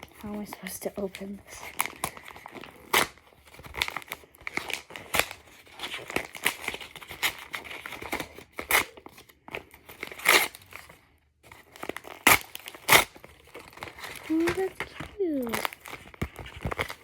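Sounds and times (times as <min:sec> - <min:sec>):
paper crinkling and tearing: 0:00.0 - 0:17.0.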